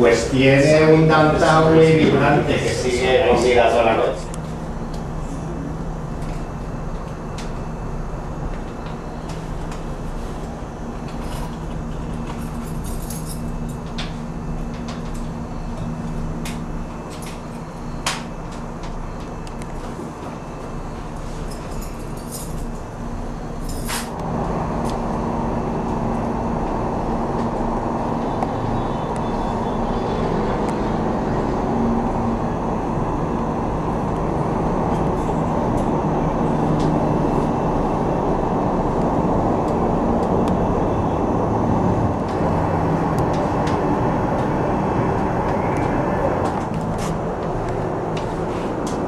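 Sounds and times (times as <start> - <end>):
aerial tram cabin rumble: 0.0 - 49.0.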